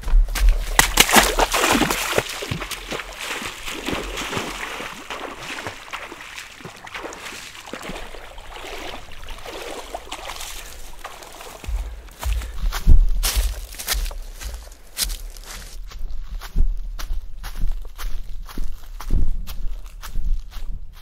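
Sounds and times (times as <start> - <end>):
footsteps wading through water: 0.1 - 20.7.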